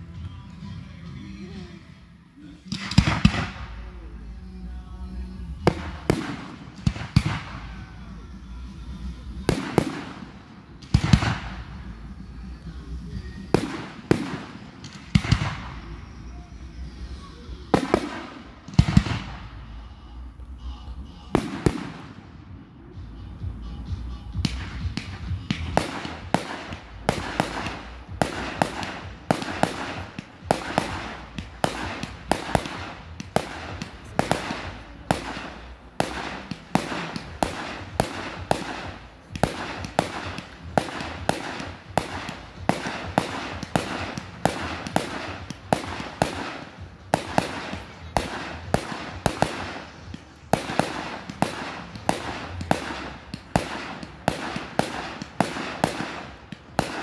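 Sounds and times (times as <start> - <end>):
fireworks crackling: 0.0 - 22.5, 23.9 - 57.0
fireworks bangs: 2.5 - 4.2, 5.4 - 8.7, 9.3 - 19.7, 21.2 - 22.5, 24.3 - 57.0.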